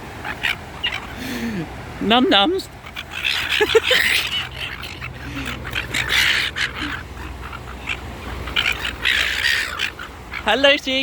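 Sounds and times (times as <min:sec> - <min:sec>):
seagulls squawking: 0:00.2 - 0:11.0.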